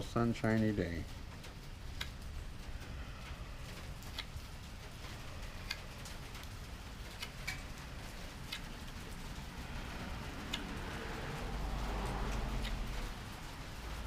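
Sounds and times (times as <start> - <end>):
rain falling steadily: 0.0 - 14.0.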